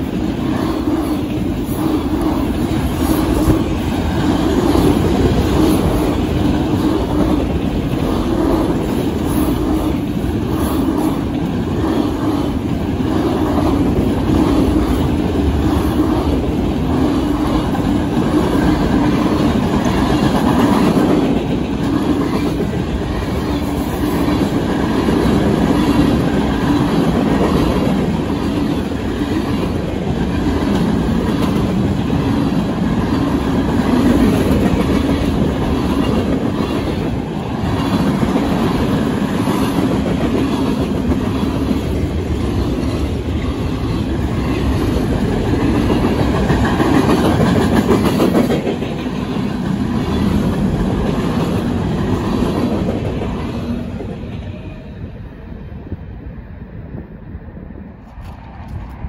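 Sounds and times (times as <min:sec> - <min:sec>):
train wheels clacking: 0:00.0 - 0:54.7
freight train rumbling past: 0:00.0 - 0:59.0.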